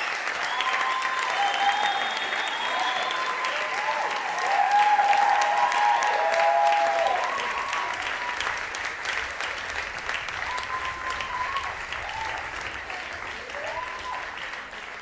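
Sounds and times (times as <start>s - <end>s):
audience applauding: 0.0s - 15.0s
people cheering: 0.0s - 15.0s.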